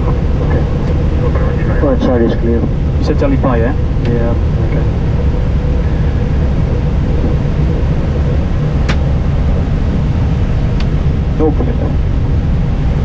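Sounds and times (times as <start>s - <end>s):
airliner cockpit rumble: 0.0s - 13.0s
faint steady hum: 0.0s - 13.0s.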